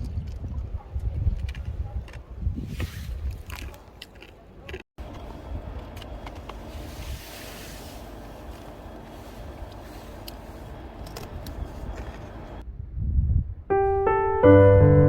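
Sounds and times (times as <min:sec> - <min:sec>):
wind buffeting microphone: 0:00.0 - 0:03.8, 0:05.0 - 0:13.7.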